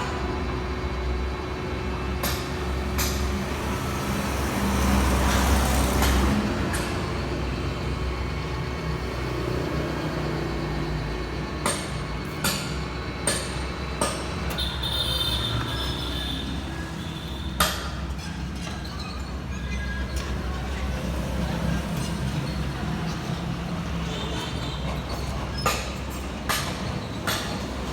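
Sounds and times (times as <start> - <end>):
drilling machine humming: 2.8 - 27.9.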